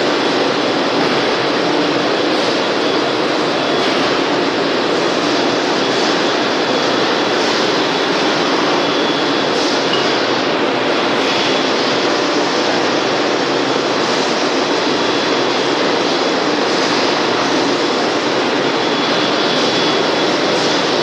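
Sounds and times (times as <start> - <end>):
blow moulding machine running: 0.0 - 21.0
faint high machine whine: 0.0 - 21.0.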